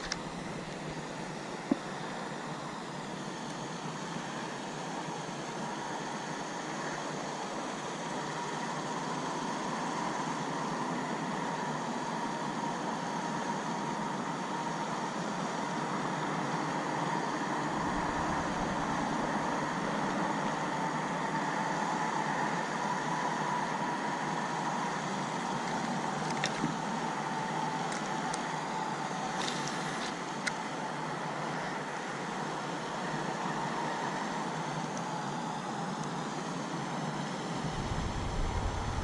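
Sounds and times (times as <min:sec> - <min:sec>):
motor running with whine: 0:00.0 - 0:39.0.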